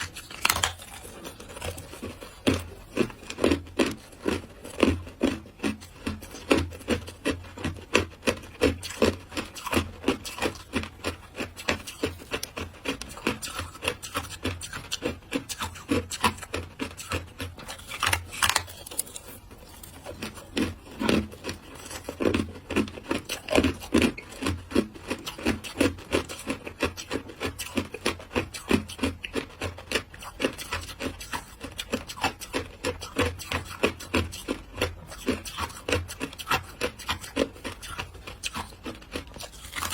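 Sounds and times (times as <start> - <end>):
shaved ice being chewed: 0.0 - 39.9.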